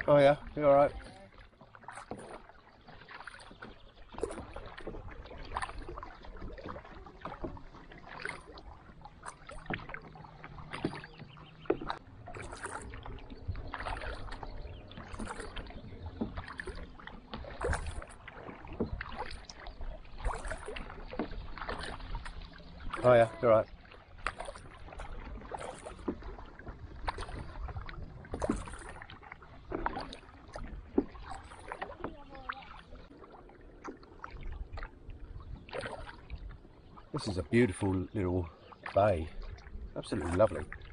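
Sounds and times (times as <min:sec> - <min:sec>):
paddle strokes in water: 0:00.0 - 0:40.9.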